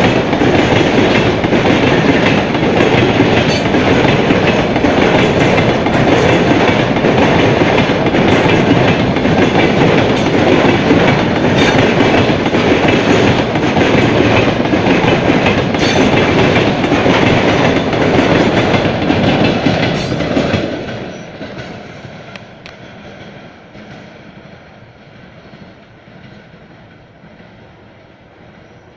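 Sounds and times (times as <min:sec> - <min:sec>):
freight train wheels clattering: 0:00.0 - 0:28.9.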